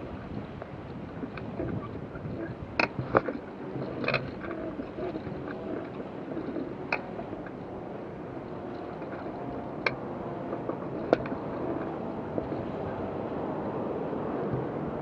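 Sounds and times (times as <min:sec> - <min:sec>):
water rushing past boat: 0:00.0 - 0:15.0
wind: 0:00.0 - 0:15.0.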